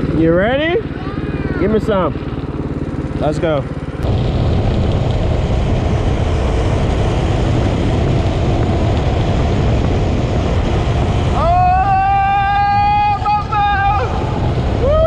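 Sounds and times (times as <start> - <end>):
go-kart engine running: 0.0 - 15.0
wind and road noise: 0.0 - 15.0.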